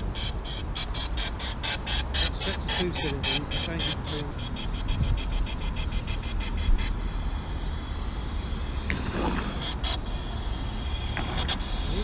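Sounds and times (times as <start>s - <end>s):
wind rumble on microphone: 2.3s - 12.0s.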